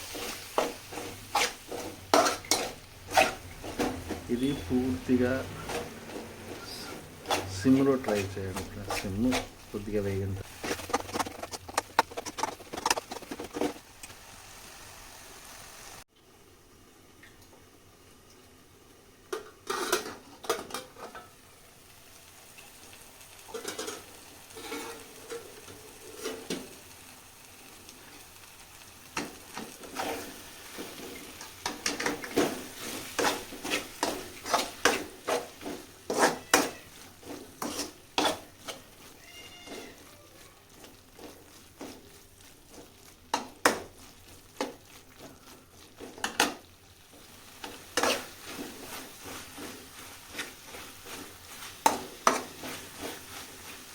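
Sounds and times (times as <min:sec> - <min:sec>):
spoon scraping a pan: 0:00.0 - 0:13.8, 0:19.6 - 0:21.3, 0:23.5 - 0:26.8, 0:29.1 - 0:53.9
faint sizzle: 0:00.0 - 0:53.9.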